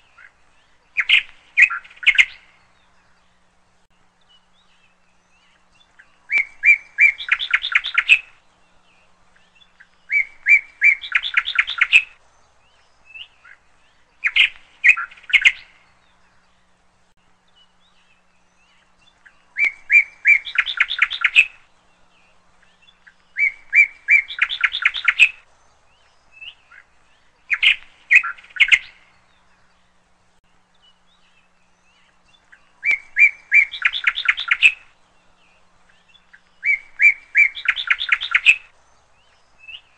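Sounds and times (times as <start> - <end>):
bird singing whistled song: 0.0 - 3.3, 4.2 - 16.7, 17.5 - 29.8, 30.7 - 39.9.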